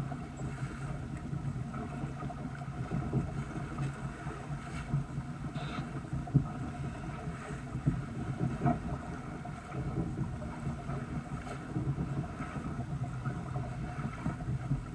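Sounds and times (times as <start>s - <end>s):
water rushing along a hull: 0.0s - 14.9s
wind buffeting microphone: 0.0s - 14.9s.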